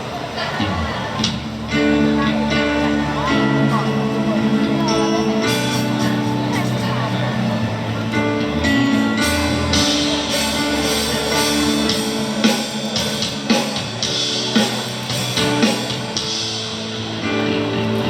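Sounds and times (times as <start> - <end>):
live band playing: 0.5 - 18.0.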